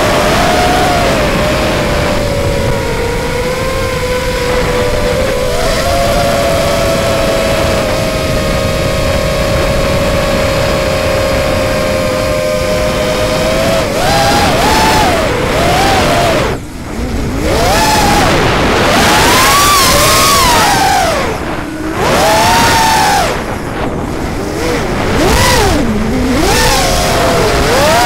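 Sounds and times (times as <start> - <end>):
quadcopter motor whine: 0.0 - 28.0.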